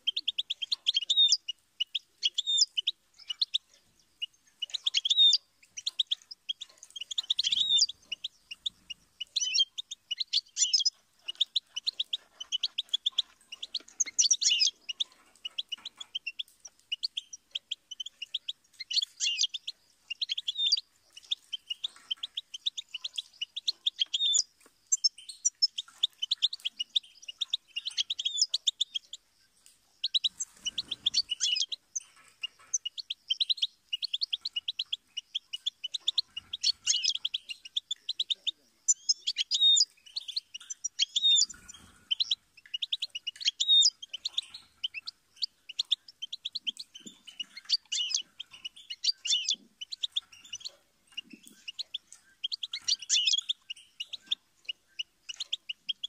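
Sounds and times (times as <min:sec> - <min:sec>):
goldfinch twittering song: 0:00.0 - 0:56.0.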